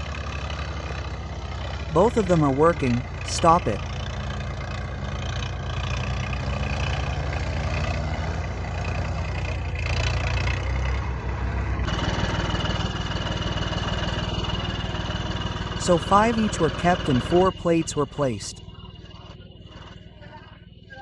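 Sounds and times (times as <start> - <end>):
diesel tractor engines running: 0.0 - 21.0.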